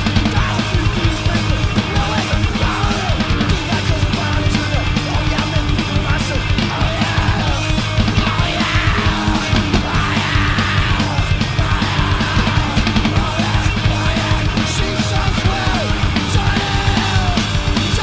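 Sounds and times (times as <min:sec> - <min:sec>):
bass guitar: 0:00.0 - 0:18.0
distorted electric guitar: 0:00.0 - 0:18.0
rapid drumming: 0:00.0 - 0:18.0.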